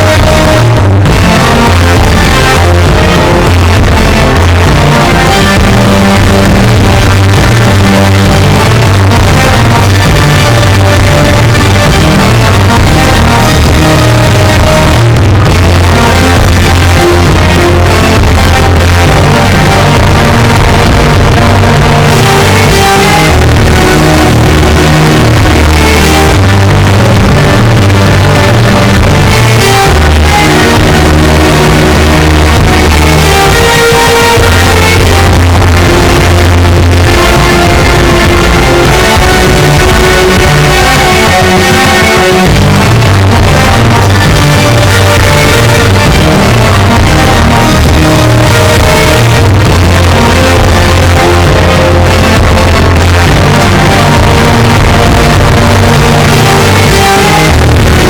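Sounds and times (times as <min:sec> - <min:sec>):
electric guitar: 0:00.0 - 0:58.0
rock music with bass: 0:00.0 - 0:58.0.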